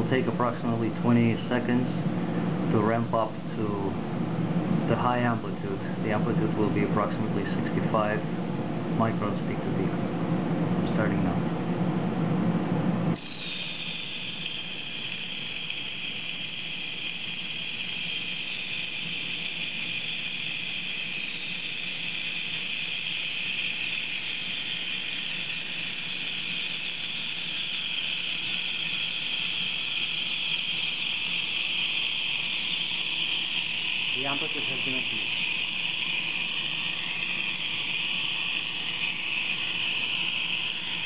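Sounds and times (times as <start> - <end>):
high-pitched cavitation hiss: 0.0 - 4.0, 4.7 - 8.3, 8.9 - 9.9, 13.1 - 41.0.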